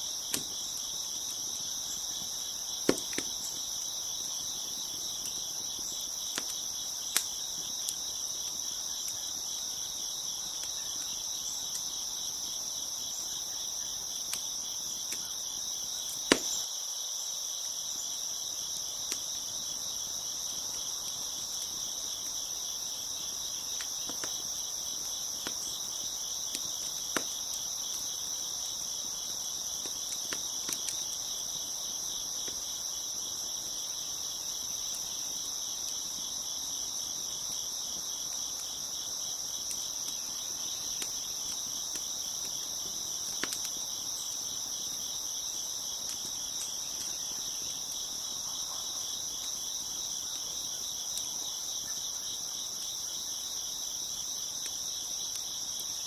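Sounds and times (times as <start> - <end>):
crickets chirping: 0.0 - 56.0
wood fire crackles: 0.0 - 56.0.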